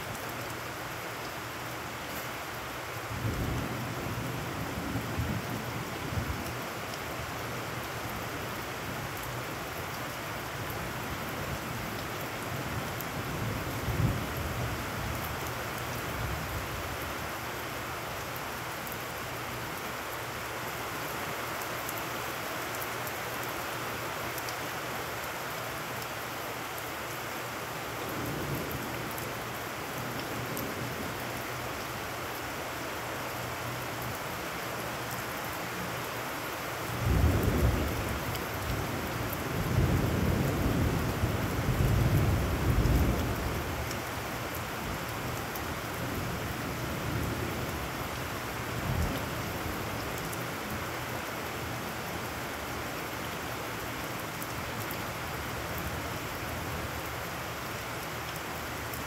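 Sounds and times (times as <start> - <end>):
heavy rain on puddles: 0.0 - 59.0.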